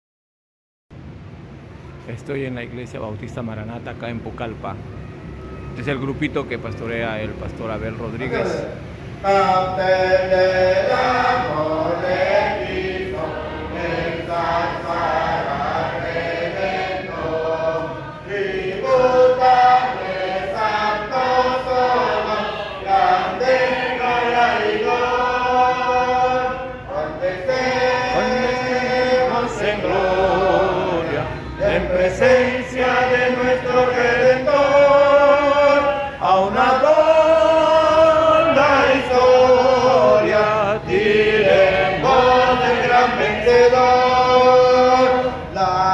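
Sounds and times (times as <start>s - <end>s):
congregation singing a hymn: 8.0s - 45.9s.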